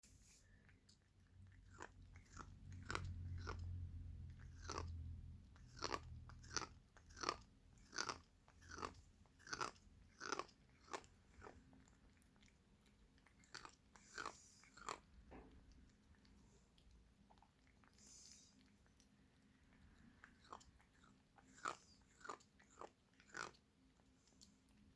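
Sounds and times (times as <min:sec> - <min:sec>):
pet crunching food: 0:00.2 - 0:24.9.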